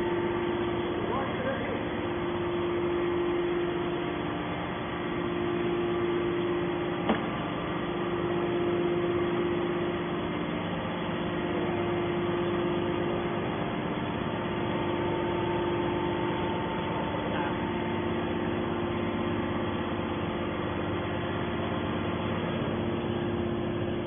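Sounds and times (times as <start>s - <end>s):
baler motor humming: 0.0s - 24.0s.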